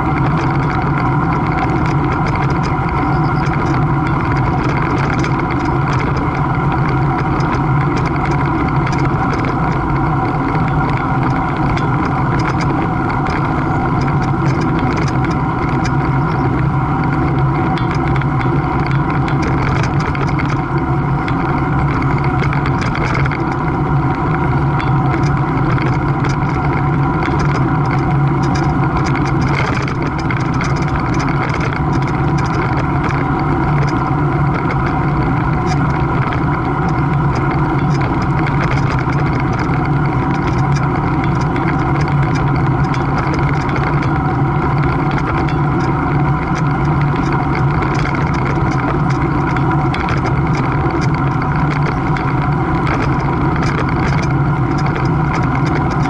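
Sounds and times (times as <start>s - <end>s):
steady engine drone: 0.0s - 56.0s.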